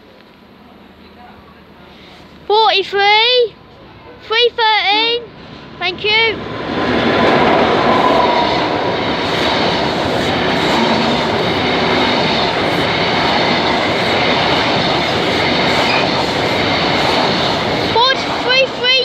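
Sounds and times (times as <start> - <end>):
train passing close by: 0.0 - 19.0.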